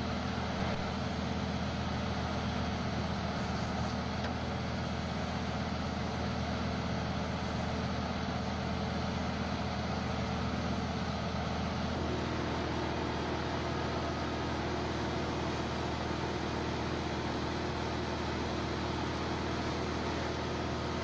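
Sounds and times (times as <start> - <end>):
fire engine low hum: 0.0 - 21.0.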